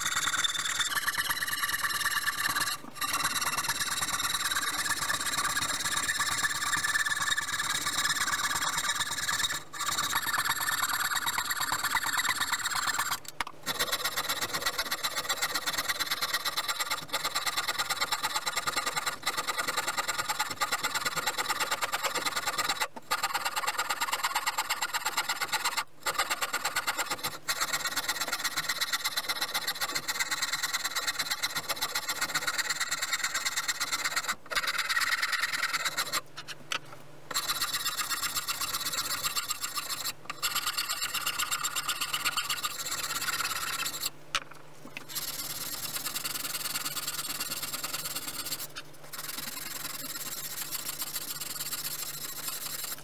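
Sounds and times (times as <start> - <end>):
hand tool rasping wood: 0.0 - 36.6, 37.3 - 44.1, 45.0 - 53.0.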